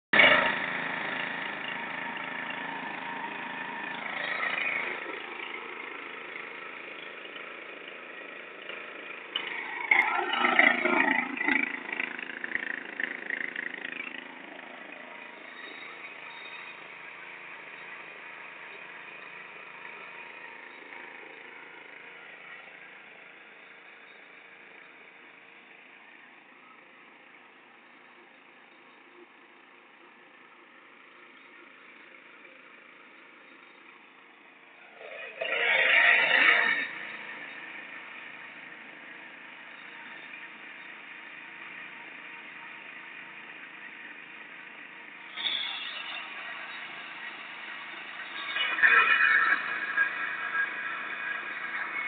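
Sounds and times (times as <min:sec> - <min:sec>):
small engine running: 0:00.1 - 0:52.0.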